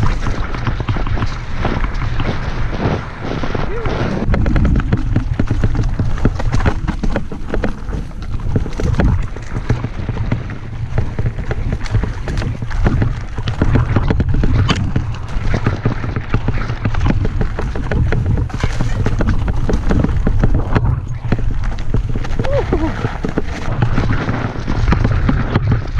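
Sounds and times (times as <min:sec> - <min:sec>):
bike clattering over bumps: 0:00.0 - 0:25.9
low rumble: 0:00.0 - 0:25.9.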